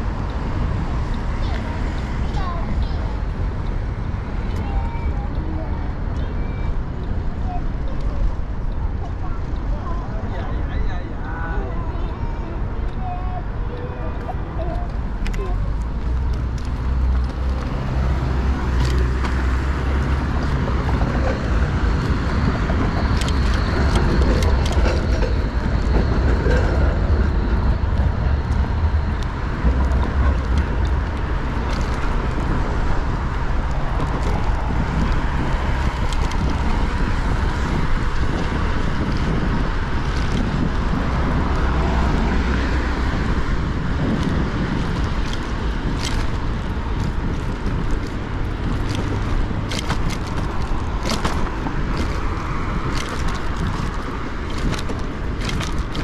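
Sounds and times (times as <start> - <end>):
bicycle riding rumble: 0.0 - 56.0
road traffic: 0.0 - 56.0.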